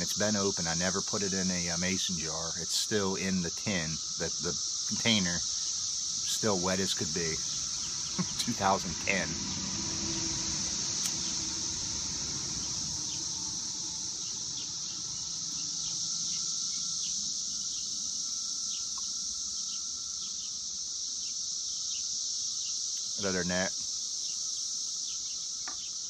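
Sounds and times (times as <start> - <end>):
cicadas chorusing: 0.0 - 26.0
faint chirps: 0.0 - 26.0.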